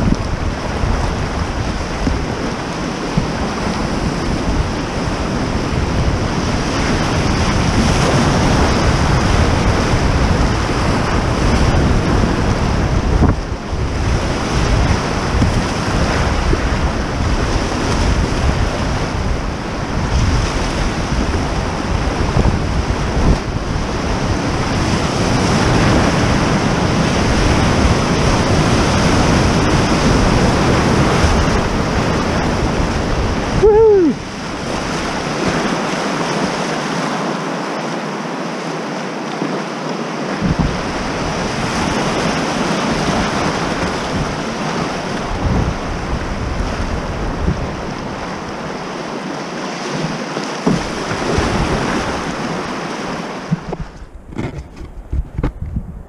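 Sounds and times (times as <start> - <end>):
wind on microphone: 0.0 - 37.4, 39.4 - 56.0
whitewater rapids rushing: 0.0 - 53.8.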